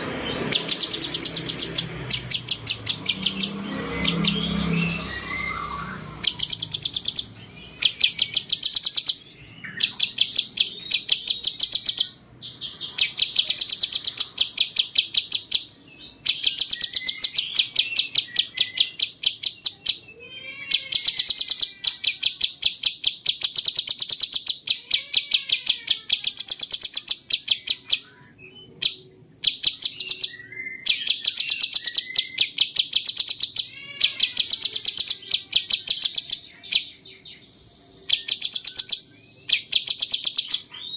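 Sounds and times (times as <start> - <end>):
songbird chattering song: 0.0 - 40.9.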